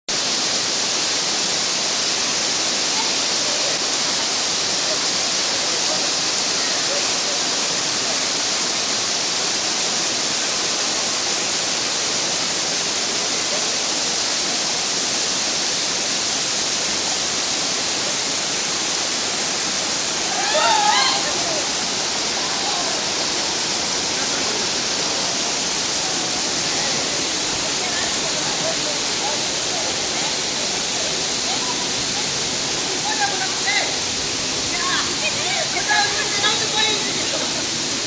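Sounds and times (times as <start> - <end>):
waterfall rushing: 0.1 - 38.0.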